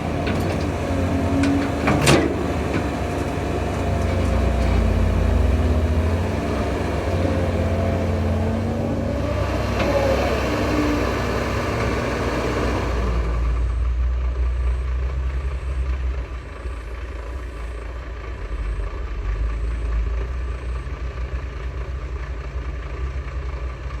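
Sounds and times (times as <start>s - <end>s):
heavy machinery engine rumbling: 0.0s - 24.0s.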